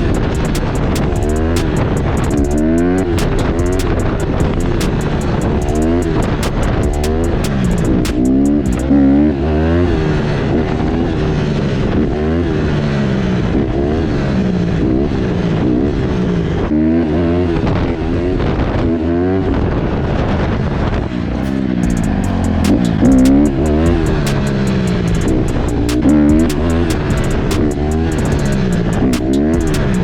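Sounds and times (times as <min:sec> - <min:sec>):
dirt bike engine revving: 0:00.0 - 0:15.9, 0:21.3 - 0:30.0.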